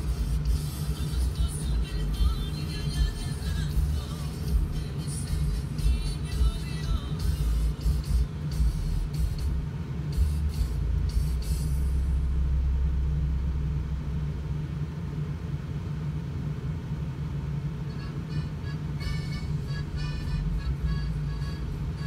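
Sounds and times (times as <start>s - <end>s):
faint music: 0.0s - 16.2s, 16.9s - 22.0s
vehicle engine rumble: 0.0s - 22.0s.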